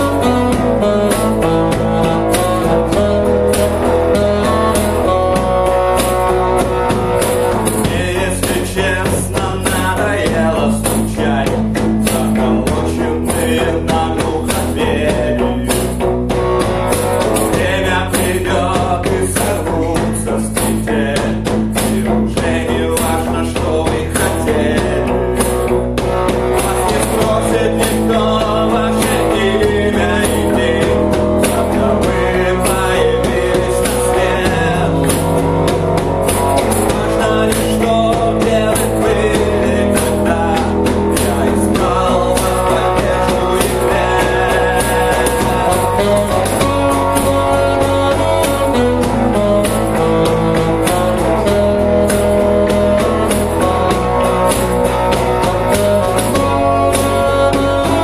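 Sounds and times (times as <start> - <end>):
bass line: 0.0 - 58.0
cajon beat: 0.0 - 58.0
punk rock song: 0.0 - 58.0.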